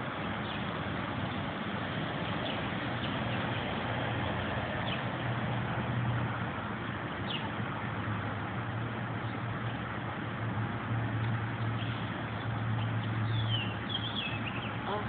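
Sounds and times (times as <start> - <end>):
outdoor noise haze: 0.0 - 15.0.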